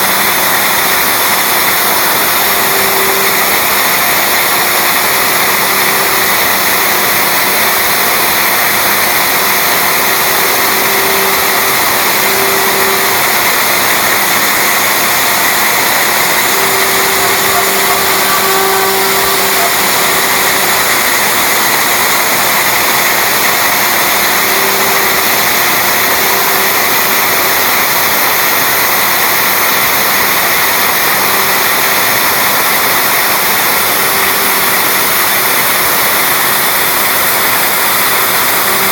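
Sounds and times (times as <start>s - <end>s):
bit cutting wood: 0.0s - 38.9s
lower machine tone: 0.0s - 38.9s
router spindle whine: 0.0s - 38.9s.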